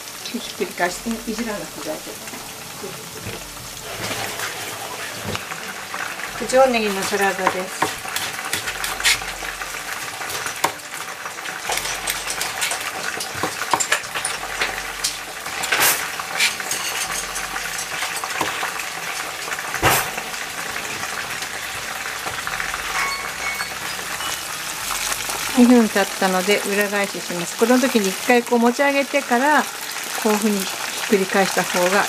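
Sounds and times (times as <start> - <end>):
chicken deep-frying in oil: 0.0 - 32.0.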